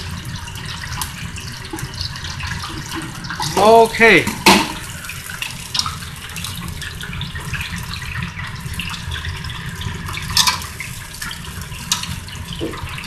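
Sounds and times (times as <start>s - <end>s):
oil sizzling in deep fryer: 0.0s - 13.0s.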